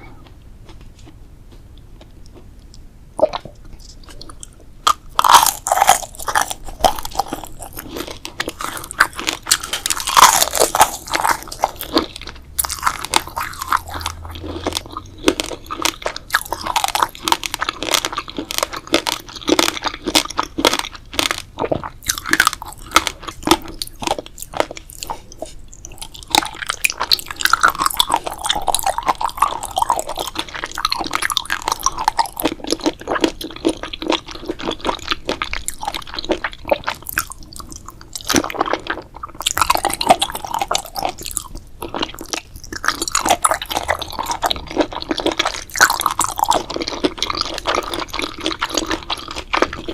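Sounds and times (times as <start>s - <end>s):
crunching and chewing crisp food: 0.0s - 49.9s.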